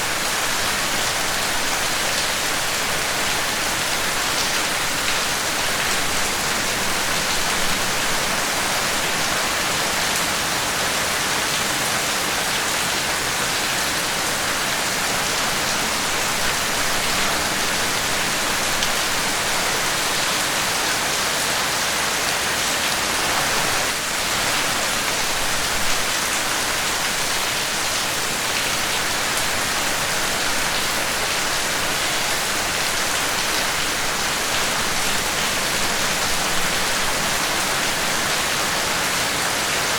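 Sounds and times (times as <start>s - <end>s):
heavy rain pattering: 0.0s - 21.2s, 22.2s - 39.9s.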